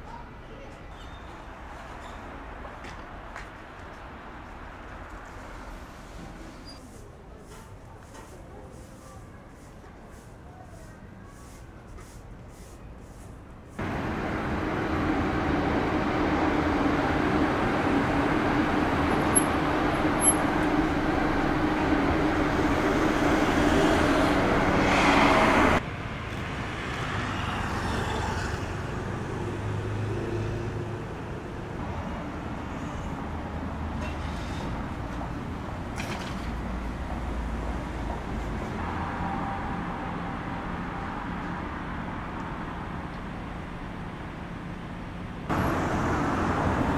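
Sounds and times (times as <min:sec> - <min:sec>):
road traffic: 0:00.0 - 0:46.9.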